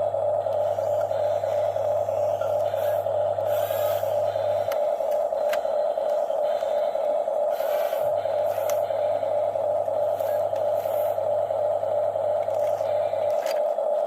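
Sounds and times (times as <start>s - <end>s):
lower hum: 0.0s - 14.0s
toy gear motors whining: 0.0s - 14.0s.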